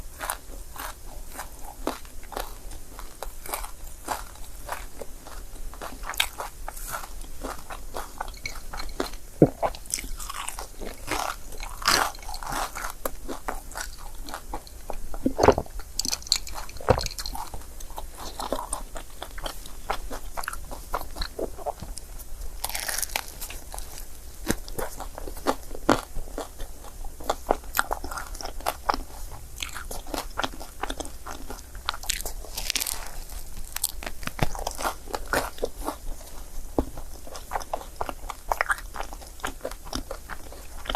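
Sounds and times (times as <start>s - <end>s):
crepe being chewed: 0.0s - 40.9s.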